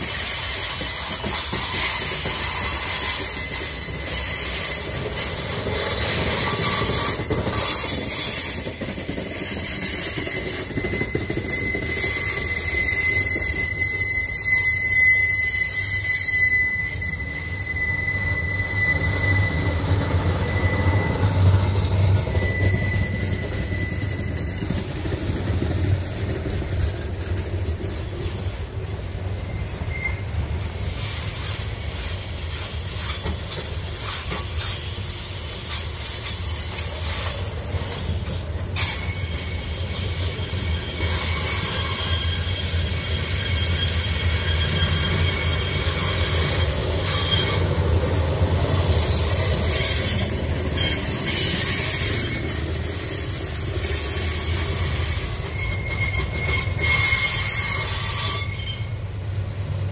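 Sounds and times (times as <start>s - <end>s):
faint wheel squeal: 0.0s - 8.7s, 9.5s - 25.1s, 29.3s - 59.1s
train wheels rumbling on rails: 0.0s - 59.9s.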